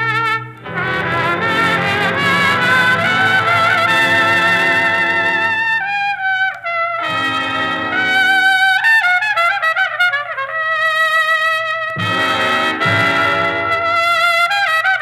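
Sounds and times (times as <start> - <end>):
swing big band with strings: 0.0 - 10.6, 11.6 - 15.0
solo trumpet with vibrato: 0.0 - 15.0.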